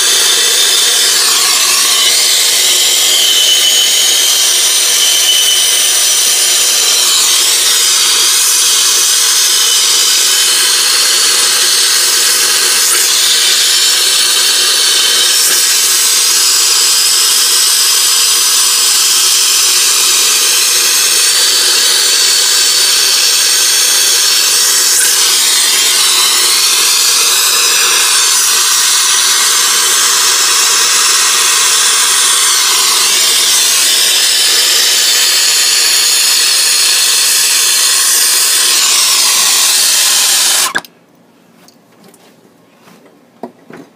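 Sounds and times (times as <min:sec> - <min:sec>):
torch flame hissing: 0:00.0 - 0:40.8.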